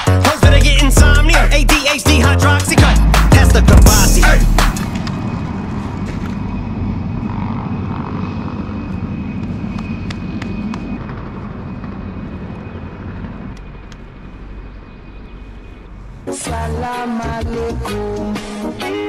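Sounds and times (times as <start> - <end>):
steady low rumble: 0.4 - 17.7.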